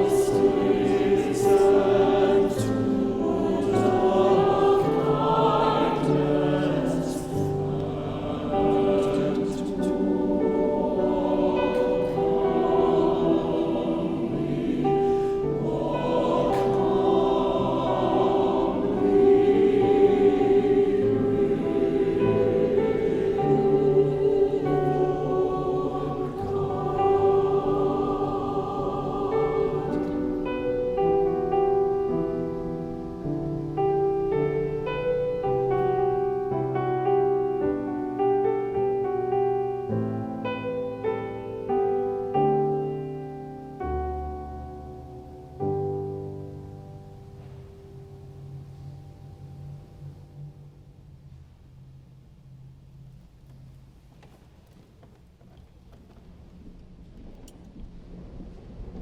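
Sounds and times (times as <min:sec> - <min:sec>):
church choir singing: 0:00.0 - 0:51.0.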